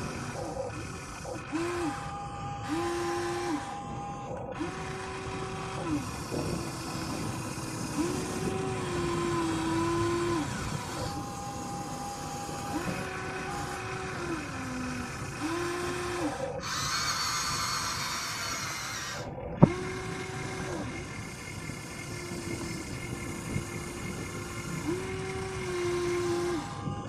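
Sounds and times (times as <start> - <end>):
small motors whining: 0.0 - 27.0.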